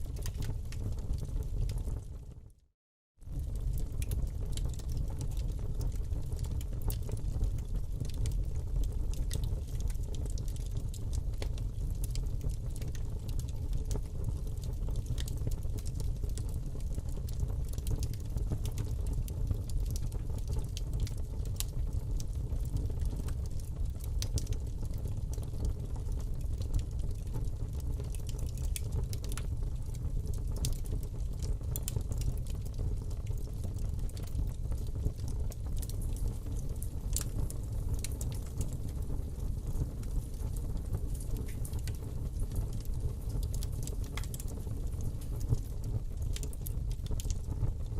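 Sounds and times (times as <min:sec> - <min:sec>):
fire crackling and popping: 0:00.0 - 0:02.5, 0:03.2 - 0:47.9
fire rumbling: 0:00.0 - 0:02.5, 0:03.2 - 0:47.9.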